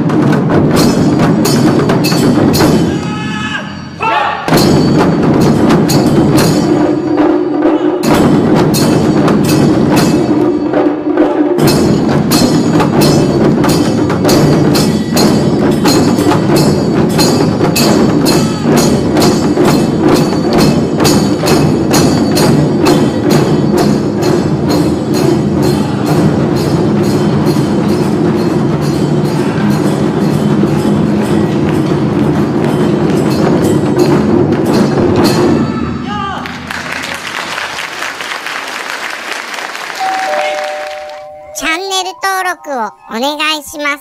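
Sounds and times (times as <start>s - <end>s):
taiko drum ensemble beat: 0.0s - 3.5s, 4.4s - 38.3s.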